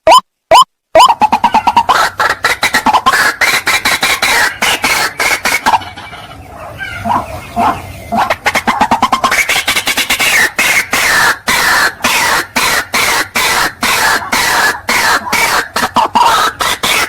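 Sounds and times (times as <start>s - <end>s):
waterhen harsh repeated calls: 0.0s - 17.0s.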